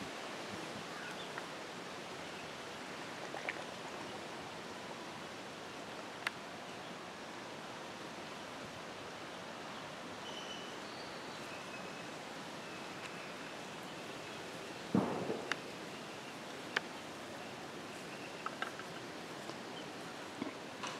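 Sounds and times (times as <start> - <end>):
outdoor background hiss: 0.0 - 20.9.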